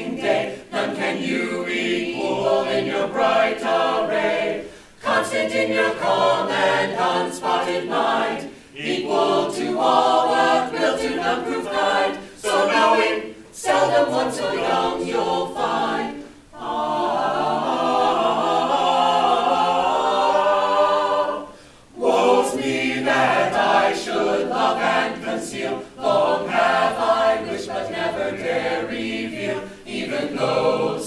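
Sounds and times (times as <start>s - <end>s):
choir singing a cappella: 0.0s - 31.0s.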